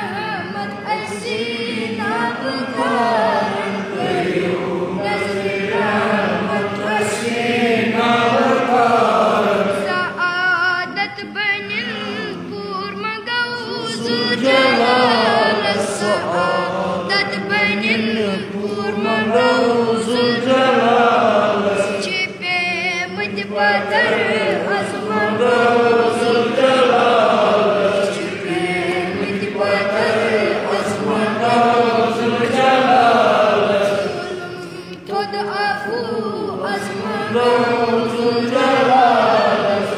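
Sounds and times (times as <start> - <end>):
person singing devotional hymn: 0.0 - 39.9.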